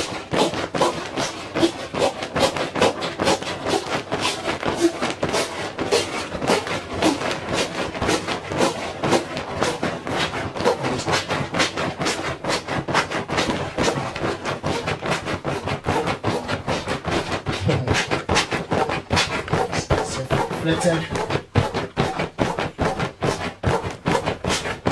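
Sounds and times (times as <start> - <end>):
inflatable mat crinkling: 0.0 - 24.9.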